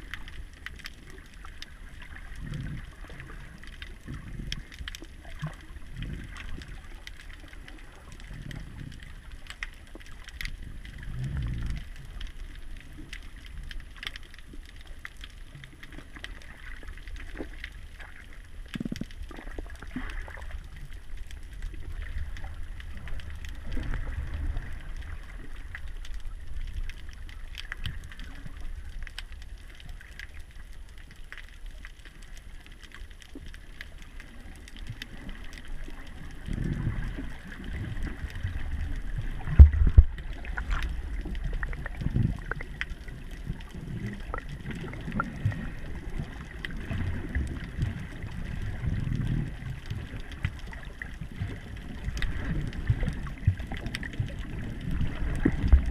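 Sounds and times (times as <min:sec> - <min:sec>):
muffled underwater water rumble: 0:00.0 - 0:55.9
sharp underwater clicks and crackles: 0:00.0 - 0:55.9.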